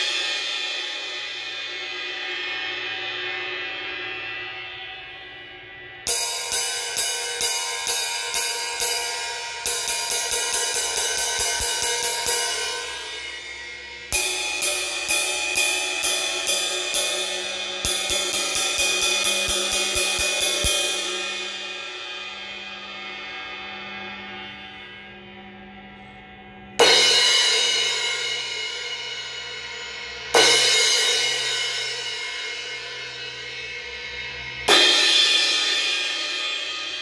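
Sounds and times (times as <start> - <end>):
ride cymbal struck with drumstick: 0.0 - 3.5, 6.1 - 23.0, 26.8 - 37.0.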